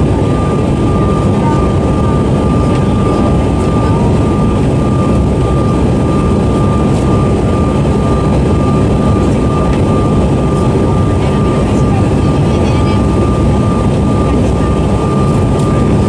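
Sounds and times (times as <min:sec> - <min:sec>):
jet cabin low rumble: 0:00.0 - 0:16.0
steady high whine: 0:00.0 - 0:16.0.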